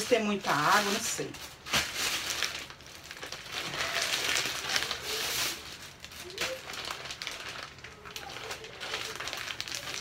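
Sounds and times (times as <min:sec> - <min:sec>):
plastic sack crinkling: 0:00.0 - 0:10.0.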